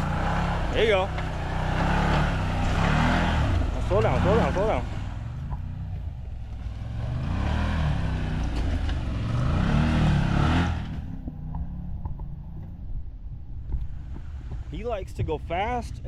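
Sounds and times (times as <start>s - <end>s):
side-by-side engine revving: 0.0s - 16.0s.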